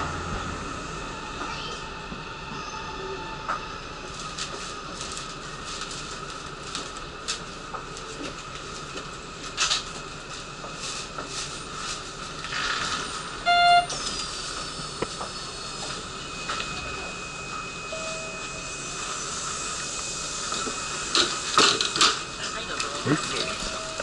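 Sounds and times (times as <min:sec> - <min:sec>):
train interior background noise: 0:00.0 - 0:24.0.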